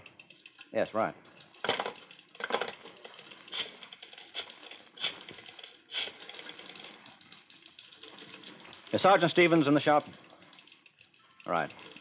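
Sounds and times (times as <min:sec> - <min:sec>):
rotary dial clicking: 0:00.0 - 0:12.0.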